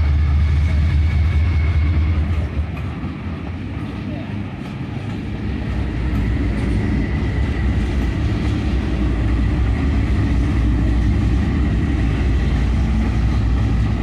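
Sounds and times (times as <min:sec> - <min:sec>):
diesel locomotive engine rumble: 0:00.0 - 0:14.0
rail car wheels rolling: 0:00.0 - 0:14.0.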